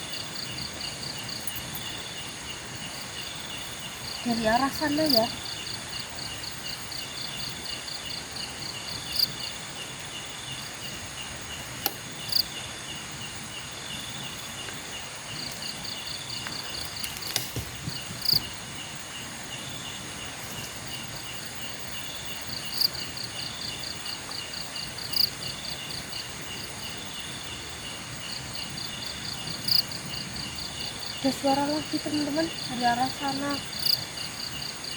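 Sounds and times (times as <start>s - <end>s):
crickets trilling: 0.0s - 34.9s
loud sharp insect chirps: 0.0s - 34.9s.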